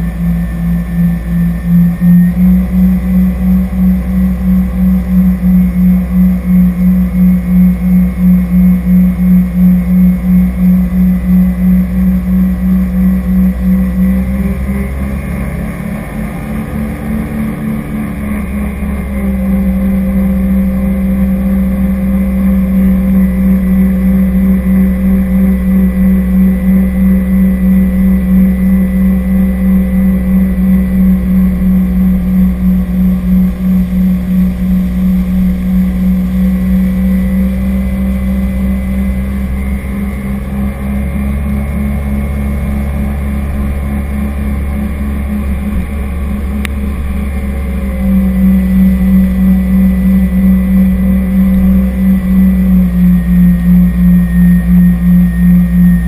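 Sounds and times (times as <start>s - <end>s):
jet ski engine drone: 0.0s - 56.0s.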